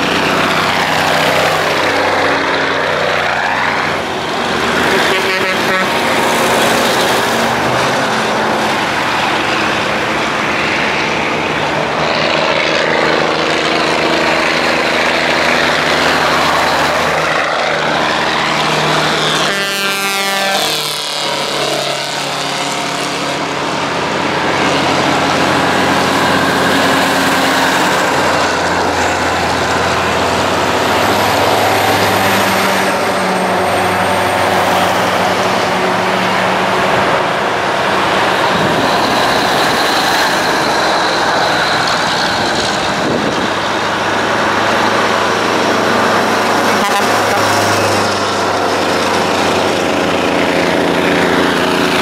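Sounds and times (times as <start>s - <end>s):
trucks driving past: 0.0s - 52.0s
tyre noise on road: 0.0s - 52.0s.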